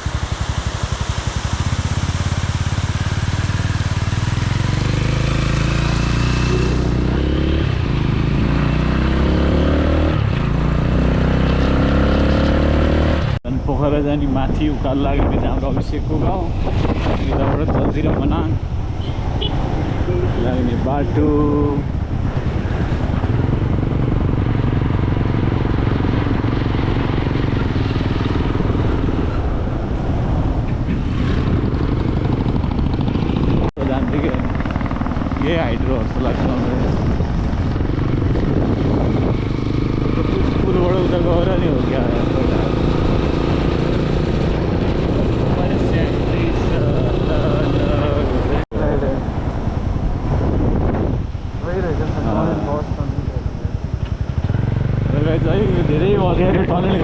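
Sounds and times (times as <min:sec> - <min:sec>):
motorcycle engine accelerating: 0:00.0 - 0:13.4, 0:16.4 - 0:57.0.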